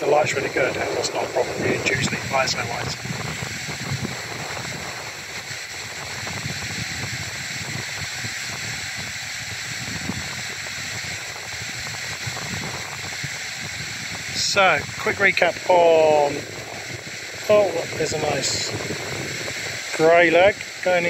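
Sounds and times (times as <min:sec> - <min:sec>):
steady outdoor hiss: 0:00.0 - 0:21.0
wind buffeting microphone: 0:00.0 - 0:21.0.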